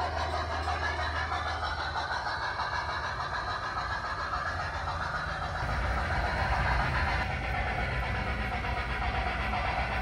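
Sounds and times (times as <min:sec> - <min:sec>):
model steam locomotive sound: 0:00.0 - 0:10.0
model train wheels on track: 0:00.0 - 0:10.0.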